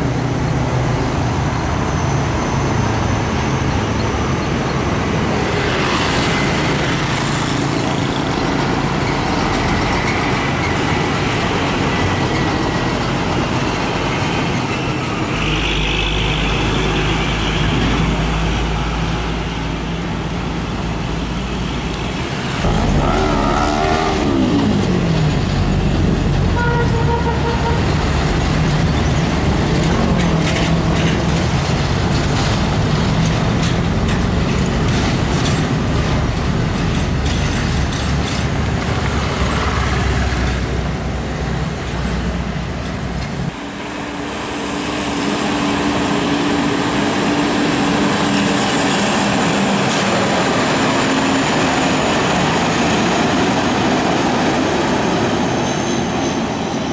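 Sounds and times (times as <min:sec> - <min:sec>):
diesel truck engines droning: 0:00.0 - 0:56.9
traffic noise: 0:00.0 - 0:56.9.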